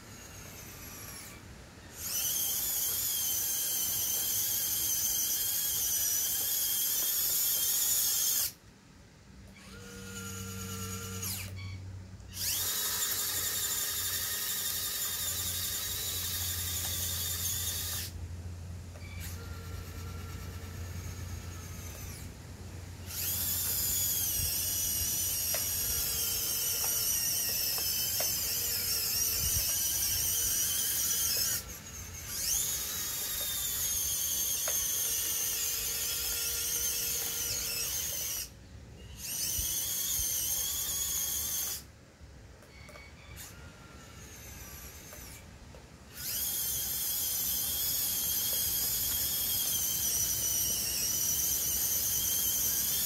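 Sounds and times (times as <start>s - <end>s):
toy excavator motors whining: 0.0s - 8.7s, 9.4s - 53.0s.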